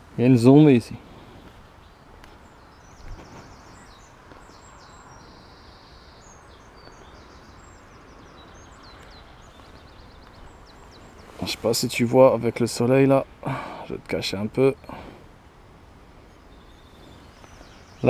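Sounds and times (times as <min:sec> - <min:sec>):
low background noise: 0:00.0 - 0:18.0
small birds chirping: 0:00.0 - 0:18.0.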